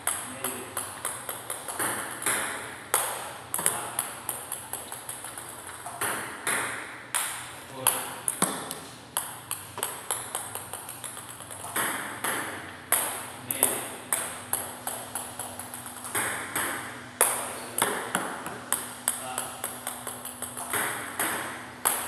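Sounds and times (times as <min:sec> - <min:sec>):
table tennis ball clicks: 0:00.0 - 0:22.0.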